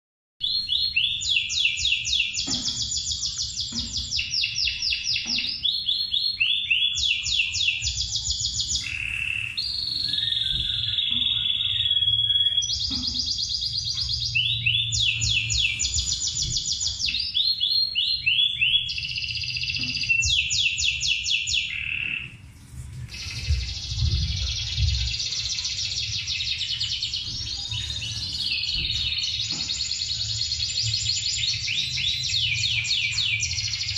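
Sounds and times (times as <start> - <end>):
canary singing through television: 0.4 - 33.9.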